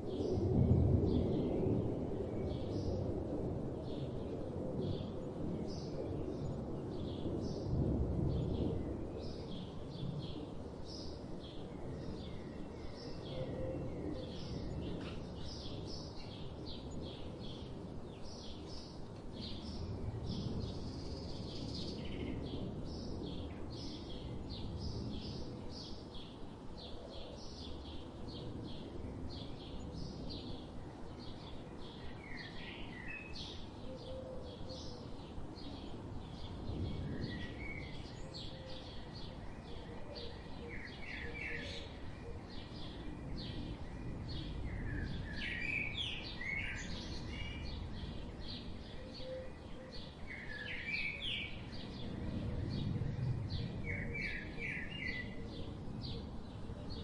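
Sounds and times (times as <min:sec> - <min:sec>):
low rumble background noise: 0:00.0 - 0:57.0
small songbirds chirping: 0:00.0 - 0:57.0.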